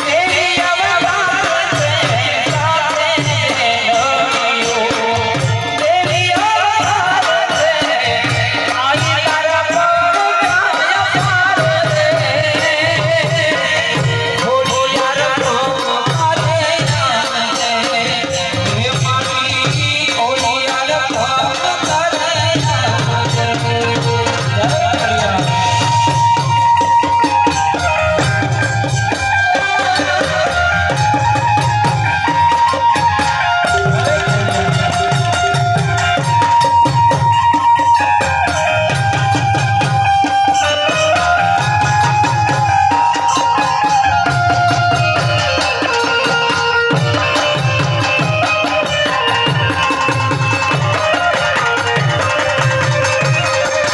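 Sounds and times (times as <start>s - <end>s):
rattling percussion: 0.0s - 53.9s
steady drum beat: 0.0s - 53.9s.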